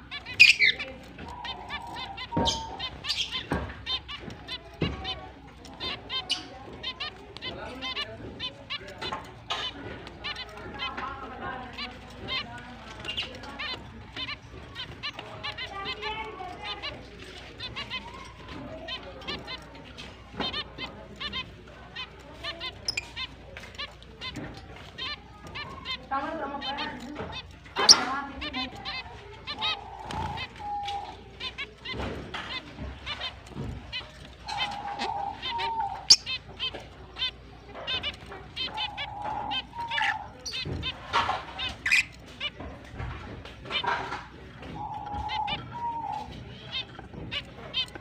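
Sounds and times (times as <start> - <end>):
finches chirping: 0.0 - 48.0.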